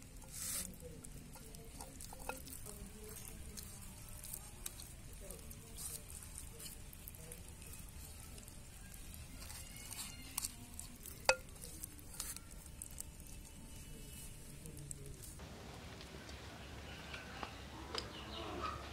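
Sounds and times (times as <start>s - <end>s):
hands rubbing paste into chicken: 0.0s - 15.4s.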